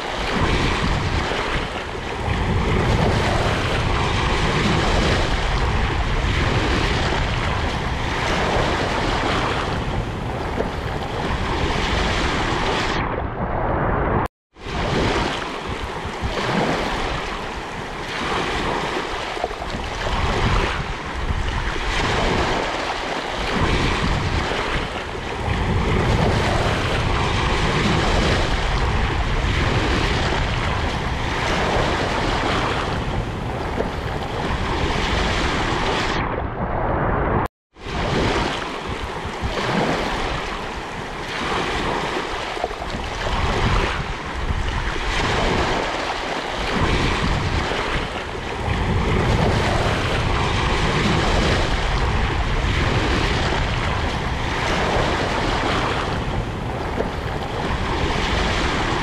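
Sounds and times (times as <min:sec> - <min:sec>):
small waves breaking on shore: 0:00.0 - 0:13.0, 0:14.6 - 0:36.2, 0:37.8 - 0:59.0
wind rumbling on microphone: 0:00.0 - 0:59.0.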